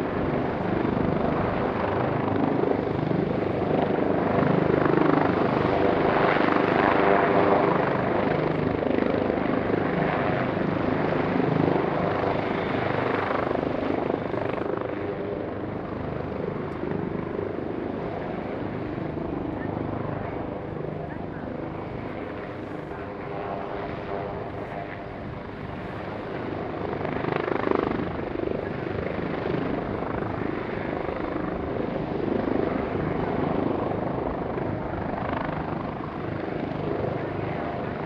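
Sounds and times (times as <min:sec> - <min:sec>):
helicopter rotor beating: 0:00.0 - 0:38.0.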